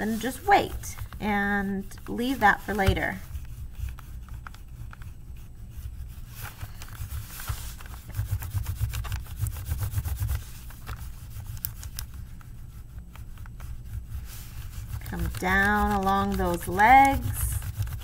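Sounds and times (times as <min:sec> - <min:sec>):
crayon rubbing on paper: 0:00.0 - 0:18.0.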